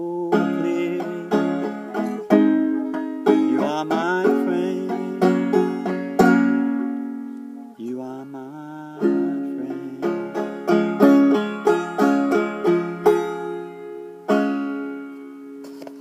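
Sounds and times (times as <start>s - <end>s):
banjo picking and strumming: 0.0s - 7.8s, 8.4s - 16.0s.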